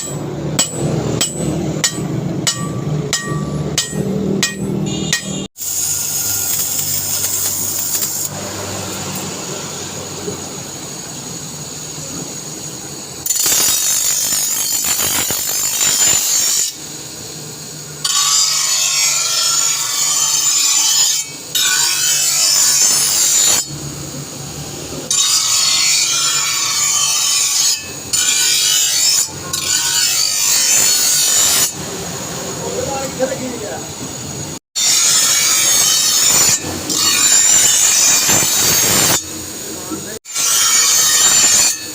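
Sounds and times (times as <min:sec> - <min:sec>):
power tool hissing on steel: 0:05.5 - 0:41.9.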